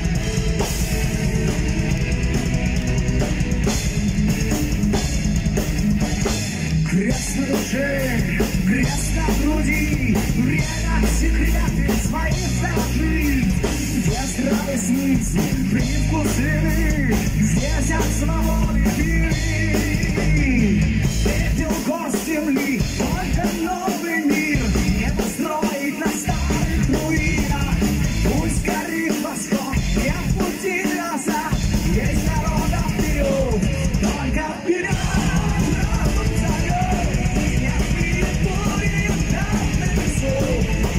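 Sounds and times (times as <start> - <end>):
bass guitar: 0.0 - 40.9
drum kit: 0.0 - 40.9
electric guitars: 0.0 - 40.9
man singing: 6.8 - 40.9.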